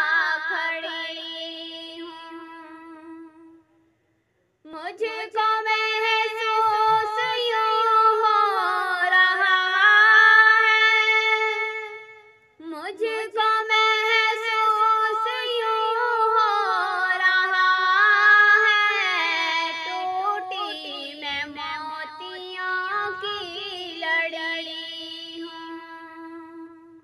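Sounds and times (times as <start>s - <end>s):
woman singing unaccompanied: 0.0s - 3.6s, 4.7s - 27.0s.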